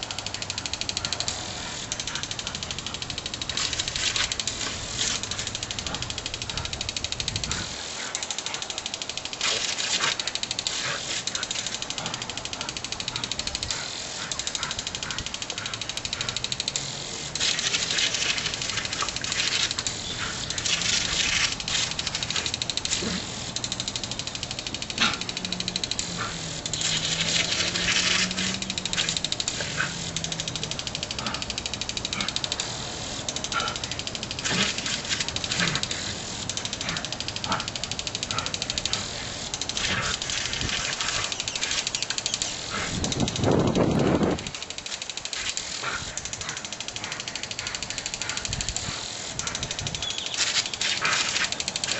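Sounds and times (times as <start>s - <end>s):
dog splashing at water jet: 0.0s - 51.9s
hose sprinkler spraying: 0.0s - 51.9s.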